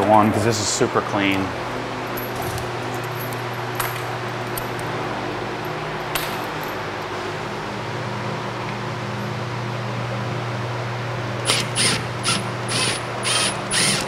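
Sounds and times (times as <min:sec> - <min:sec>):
steady fan hum: 0:00.0 - 0:14.0.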